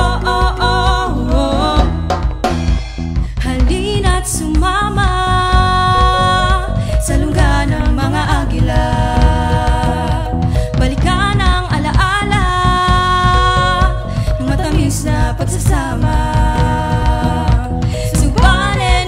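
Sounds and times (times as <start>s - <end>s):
person singing with vibrato: 0.0s - 2.5s, 3.3s - 19.0s
instrumental backing with beat: 0.0s - 19.0s.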